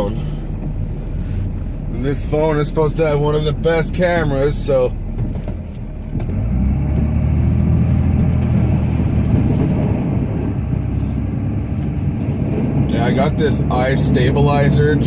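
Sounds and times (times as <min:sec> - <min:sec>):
diesel engine drone under load: 0:00.0 - 0:15.0.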